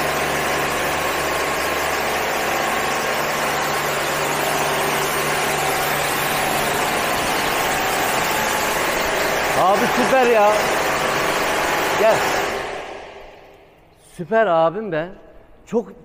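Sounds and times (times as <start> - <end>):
pump hum: 0.0 - 13.9.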